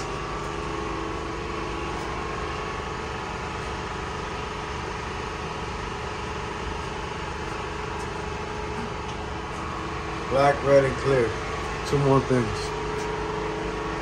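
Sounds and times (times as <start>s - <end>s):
machinery humming: 0.0s - 14.0s.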